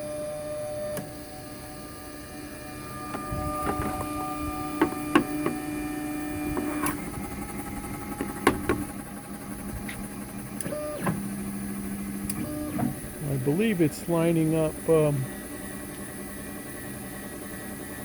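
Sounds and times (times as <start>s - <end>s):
stepper motors whining: 0.0s - 18.0s.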